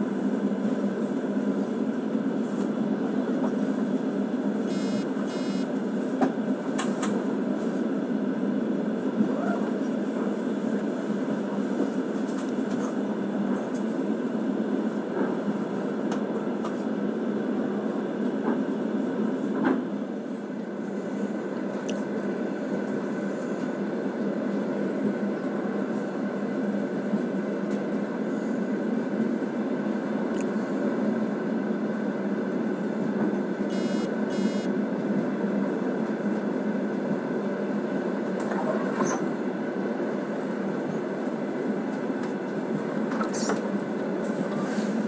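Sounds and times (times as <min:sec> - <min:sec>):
train wheels rumbling on rails: 0:05.7 - 0:33.7, 0:35.0 - 0:45.0.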